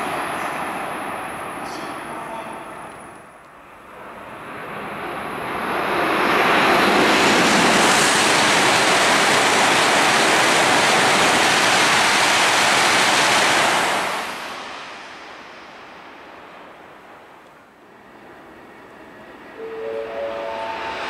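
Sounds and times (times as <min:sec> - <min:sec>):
high-speed train passing: 0:00.0 - 0:21.0.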